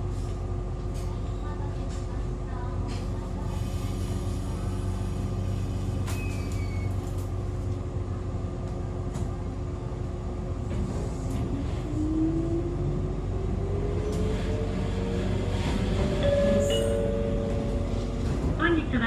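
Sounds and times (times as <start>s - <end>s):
electric railcar equipment humming: 0.0s - 19.0s.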